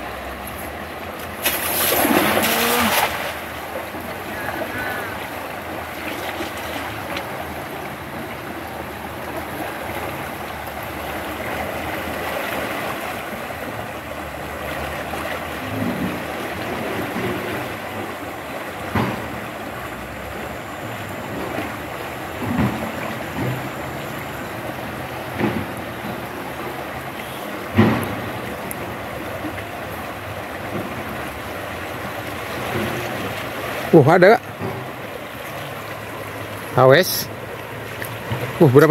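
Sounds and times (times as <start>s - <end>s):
river current rushing: 0.0s - 38.9s.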